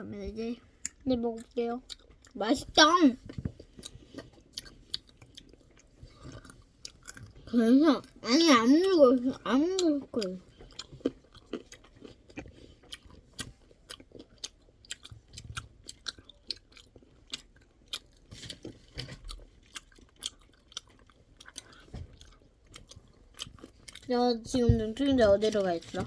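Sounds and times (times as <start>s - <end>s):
chewing crunchy chocolates: 0.8s - 26.0s.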